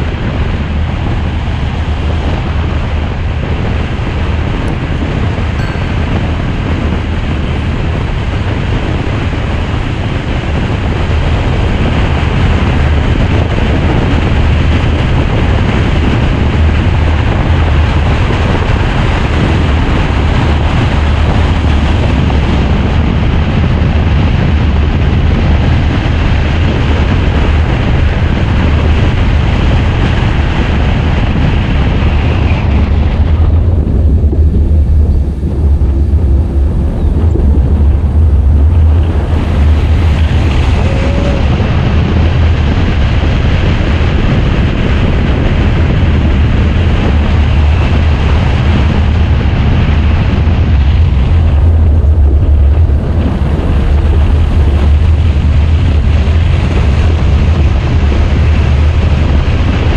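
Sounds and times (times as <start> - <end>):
car road noise: 0.0 - 59.9
wind buffeting microphone: 0.0 - 59.9.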